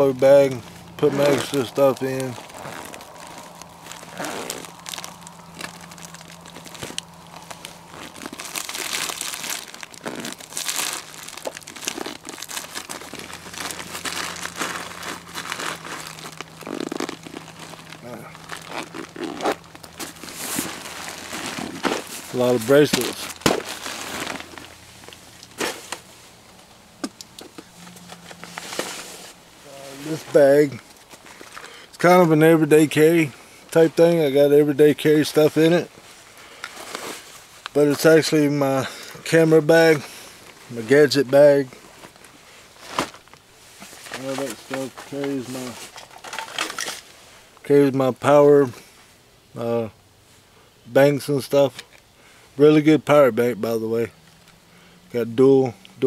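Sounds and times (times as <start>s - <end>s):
bag crinkling and rustling: 0.0s - 47.7s.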